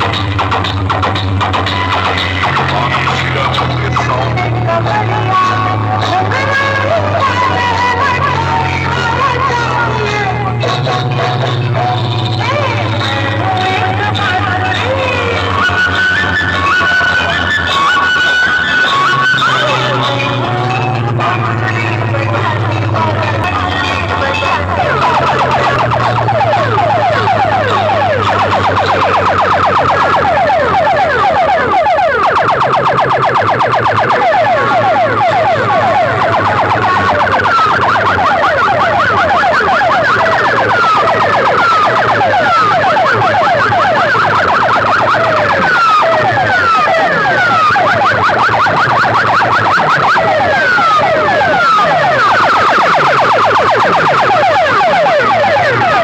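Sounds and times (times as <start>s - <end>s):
electronic siren-like sweeps: 0.0s - 56.0s.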